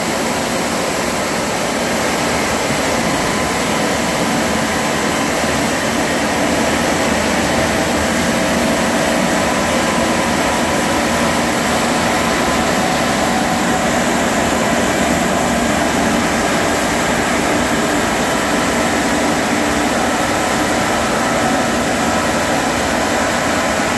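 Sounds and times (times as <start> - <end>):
street sweeper rushing noise: 0.0 - 23.9.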